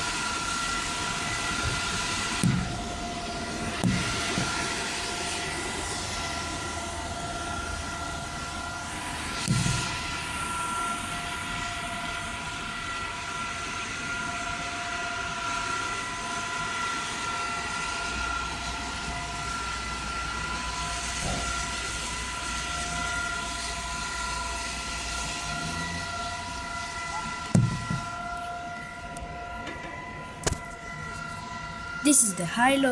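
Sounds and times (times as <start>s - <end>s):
distant civil-defence siren: 0.0s - 32.9s.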